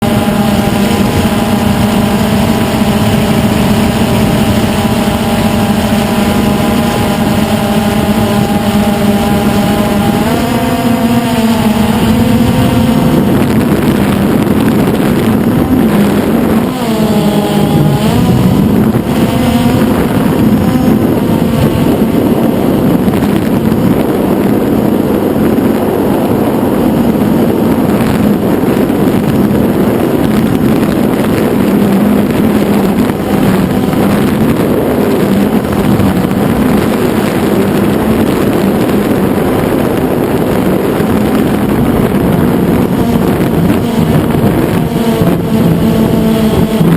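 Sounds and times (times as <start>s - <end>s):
drone propellers whining: 0.0s - 46.9s
wind noise: 0.0s - 46.9s.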